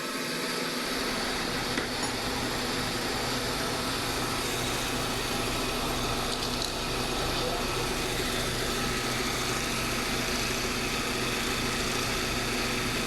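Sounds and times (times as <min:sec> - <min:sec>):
car engine idling: 0:00.1 - 0:13.0.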